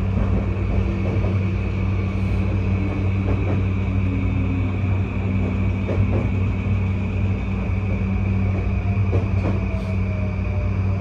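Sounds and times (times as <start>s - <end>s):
train running hum and rumble: 0.0s - 11.0s.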